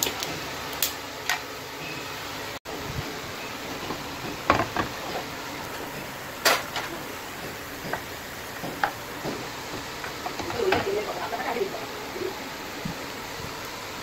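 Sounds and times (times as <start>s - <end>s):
spices sizzling in hot oil: 2.2s - 14.0s.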